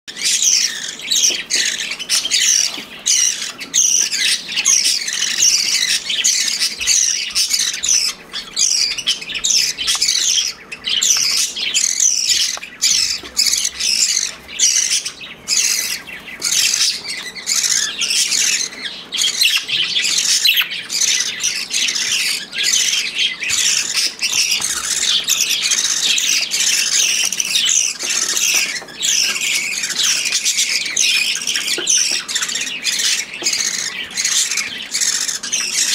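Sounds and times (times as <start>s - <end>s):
bird chicks begging calls: 0.1s - 35.9s.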